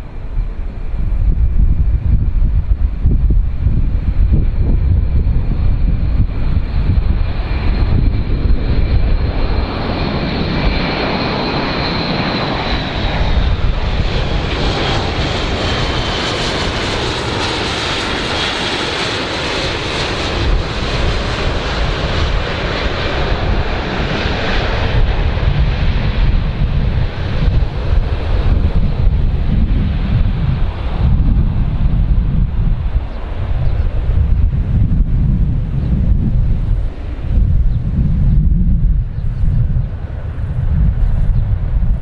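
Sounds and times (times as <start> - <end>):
turboprop aircraft flying past: 0.0 - 42.0.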